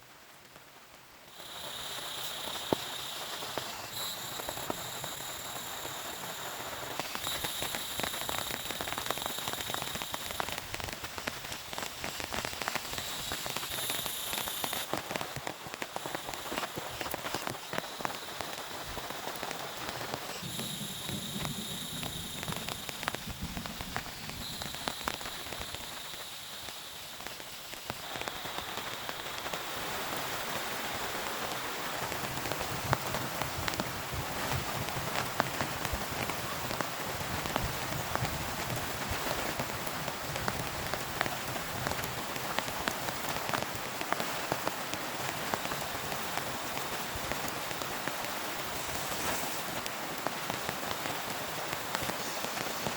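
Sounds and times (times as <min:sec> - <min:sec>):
faint high-pitched whine: 0:00.0 - 0:43.3
heavy rain falling: 0:00.0 - 0:52.9.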